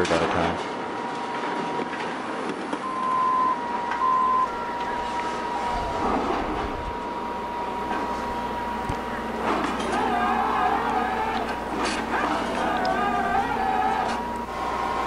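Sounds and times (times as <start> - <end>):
construction machinery whine: 0.0 - 15.0
higher machine tones: 2.7 - 15.0
low engine rumble: 2.8 - 15.0.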